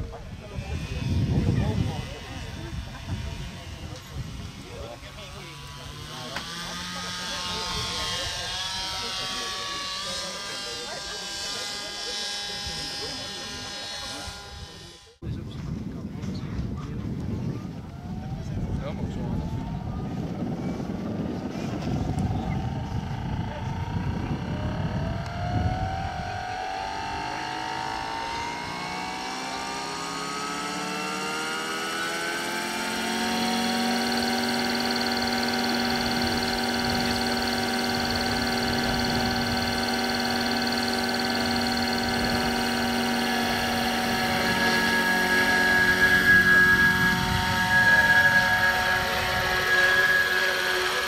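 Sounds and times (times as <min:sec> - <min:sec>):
model helicopter whine: 0:00.0 - 0:51.0.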